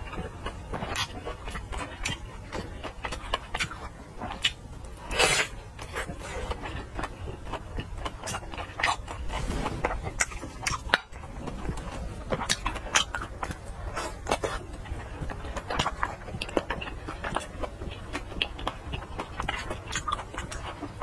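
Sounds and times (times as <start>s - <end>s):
wet chewing smacks: 0.0s - 21.0s.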